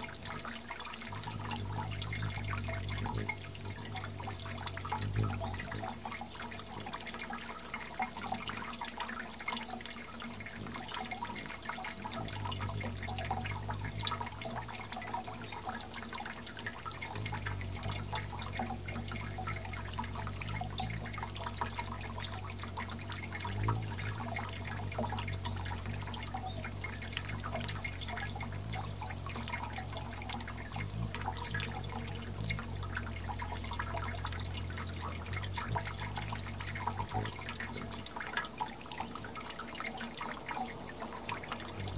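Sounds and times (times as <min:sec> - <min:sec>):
low hum: 0:00.0 - 0:07.6, 0:10.6 - 0:41.9
fountain water splashing: 0:00.0 - 0:41.9.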